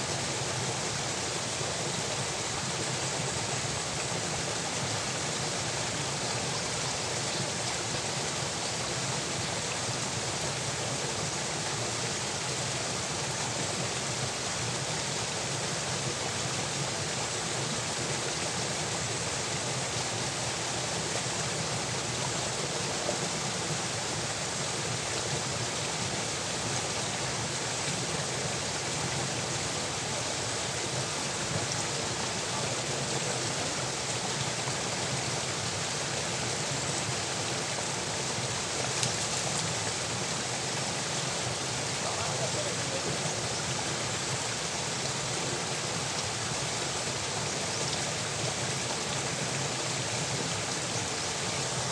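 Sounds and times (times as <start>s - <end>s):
water flowing in channel: 0.0s - 51.9s.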